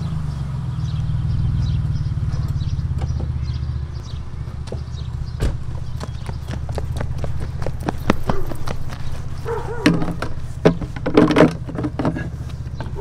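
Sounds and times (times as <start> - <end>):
car engine idling: 0.0 - 13.0
engine knocks: 0.6 - 13.0.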